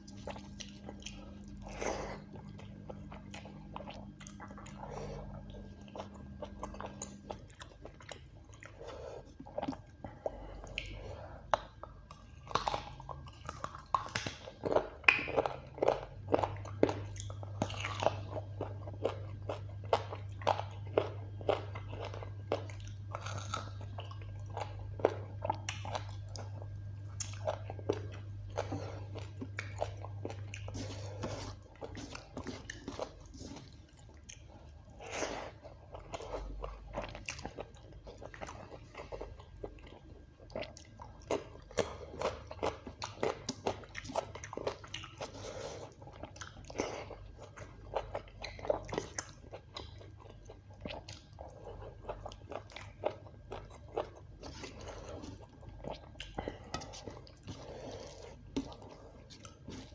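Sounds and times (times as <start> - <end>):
person chewing with wet smacks: 0.0 - 59.9.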